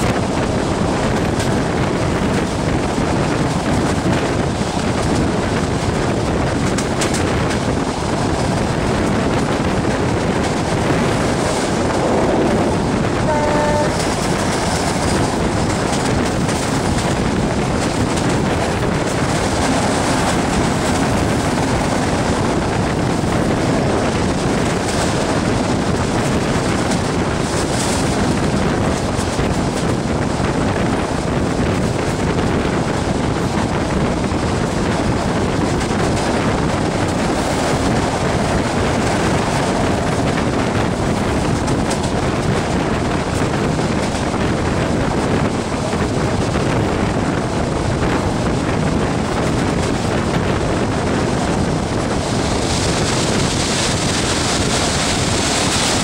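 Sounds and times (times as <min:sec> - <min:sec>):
train rolling on track: 0:00.0 - 0:56.0
wind rushing on microphone: 0:00.0 - 0:56.0.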